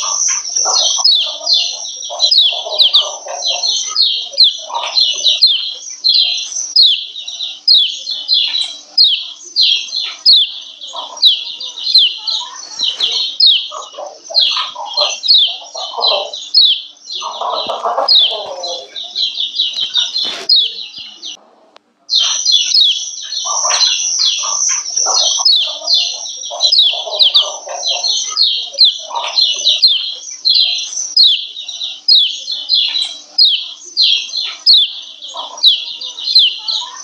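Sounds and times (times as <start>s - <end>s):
bird chirping rapidly: 0.0s - 21.4s, 22.1s - 37.0s
bird chatter: 0.0s - 37.0s.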